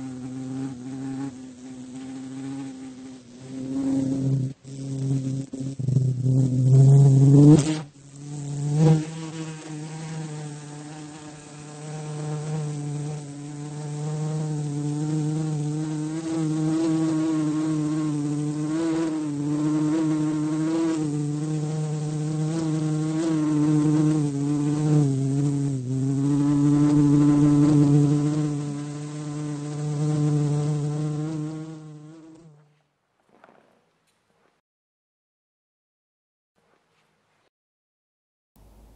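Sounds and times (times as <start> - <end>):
housefly buzzing: 0.0 - 32.7.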